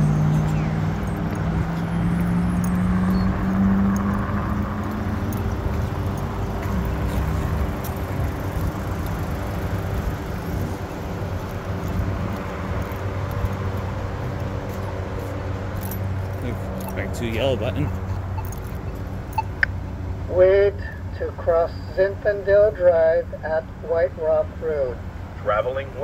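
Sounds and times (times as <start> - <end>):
cars rushing past: 0.0 - 20.9
engine hum rising: 0.0 - 26.0.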